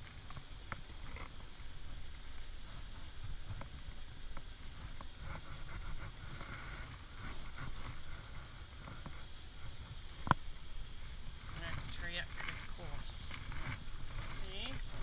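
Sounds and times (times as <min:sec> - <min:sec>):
wet hands rubbing fur: 0:02.6 - 0:15.0.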